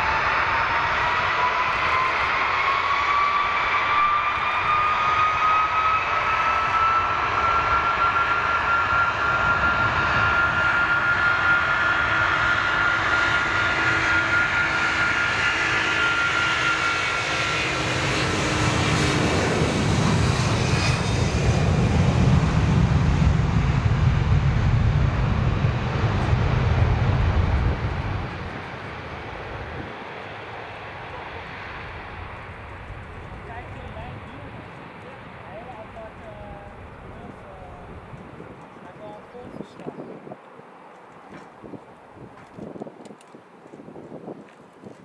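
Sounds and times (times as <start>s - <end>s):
jet engines on take-off roll: 0.0s - 45.0s.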